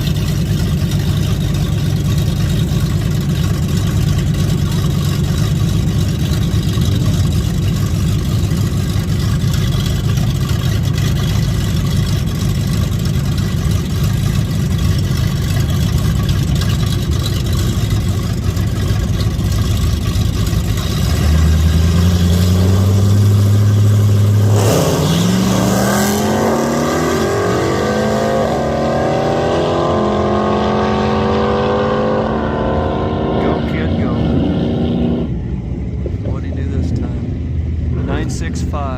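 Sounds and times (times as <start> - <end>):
drag car engine rumbling and accelerating: 0.0 - 38.9.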